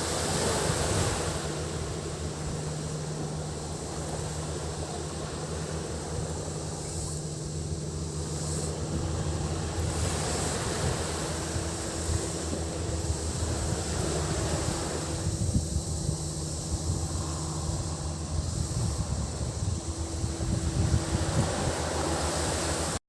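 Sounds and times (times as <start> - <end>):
cicadas droning: 0.0 - 23.0
sea waves washing onto beach: 0.0 - 23.0
steady low hum: 0.0 - 23.0.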